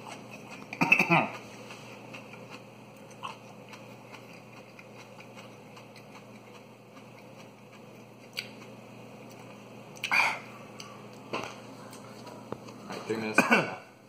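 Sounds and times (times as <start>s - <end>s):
person chewing: 0.0s - 12.9s
low steady hum: 0.0s - 14.0s.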